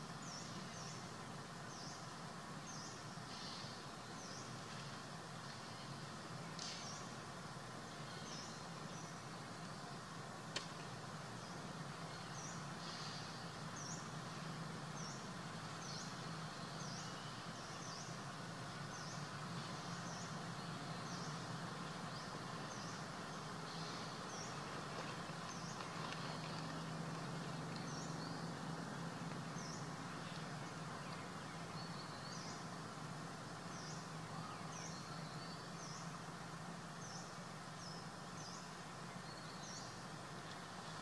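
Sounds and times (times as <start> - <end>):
small birds chirping: 0.0 - 33.0
steady hiss and low hum: 0.0 - 41.0.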